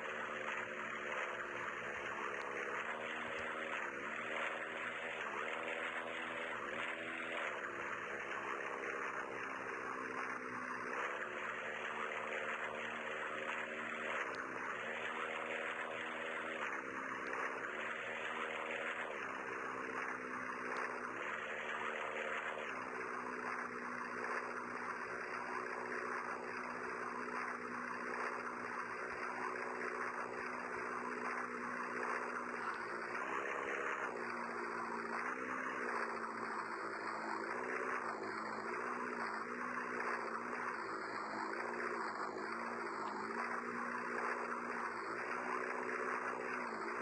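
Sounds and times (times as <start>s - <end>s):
motor running steadily: 0.0s - 47.0s.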